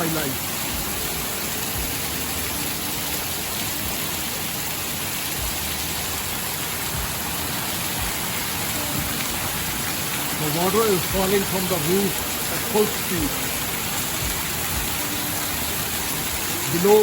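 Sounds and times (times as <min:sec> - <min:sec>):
heavy rain pouring: 0:00.0 - 0:17.0
water gushing off roof: 0:00.0 - 0:17.0.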